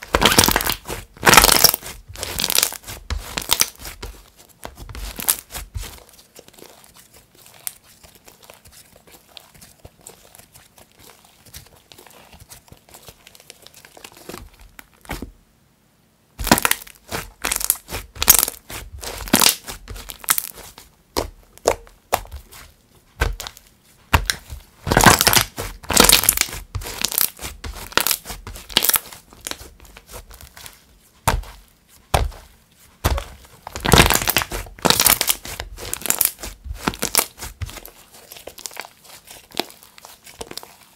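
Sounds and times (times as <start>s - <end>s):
slime crackling and squishing: 0.0s - 15.3s, 16.4s - 40.9s
slime crinkling: 0.0s - 15.3s, 16.4s - 40.9s.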